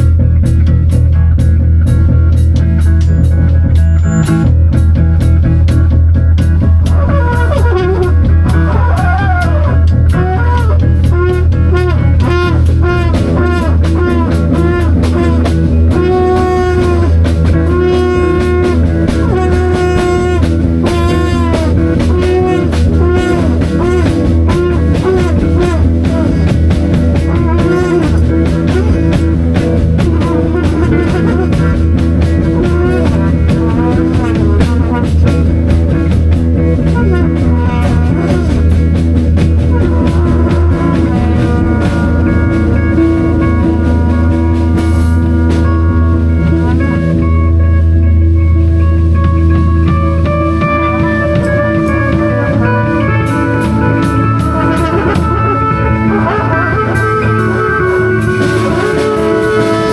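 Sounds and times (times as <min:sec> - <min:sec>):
bass line: 0:00.0 - 0:59.9
drum kit beat: 0:00.0 - 0:59.9
guitar: 0:00.0 - 0:59.9
sliding melodic lead: 0:00.0 - 0:59.9.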